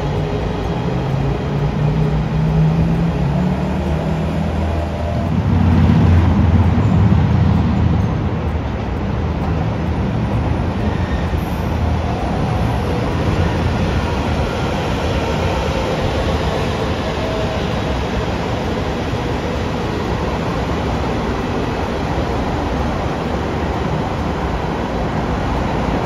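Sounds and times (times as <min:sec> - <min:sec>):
train running by: 0:00.0 - 0:26.0.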